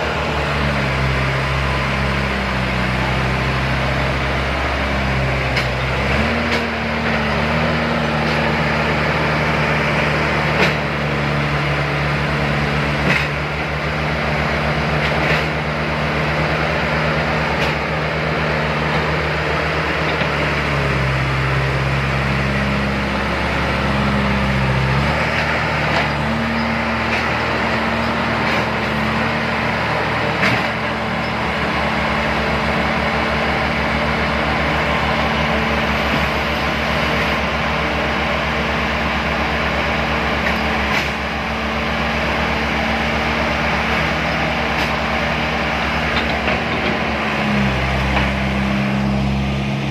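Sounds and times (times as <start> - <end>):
heavy diesel engines running hard: 0.0 - 49.9.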